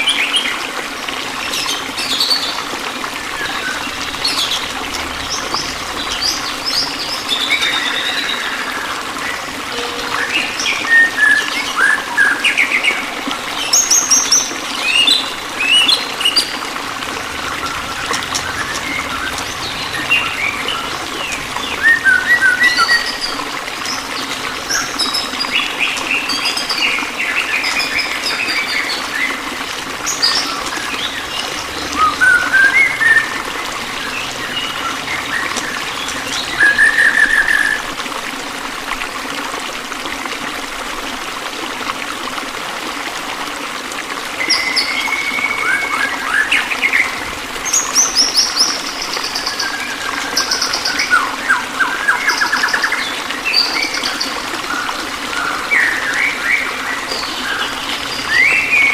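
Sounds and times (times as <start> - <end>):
running water: 0.0 - 58.9.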